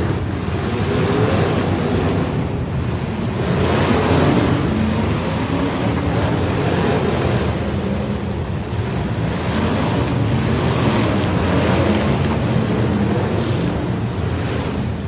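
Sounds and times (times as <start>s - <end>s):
many car engines running: 0.0s - 15.0s.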